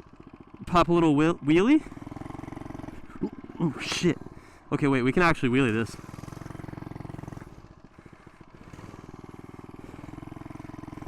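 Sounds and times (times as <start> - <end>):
mini bike engine running: 0.0 - 11.0.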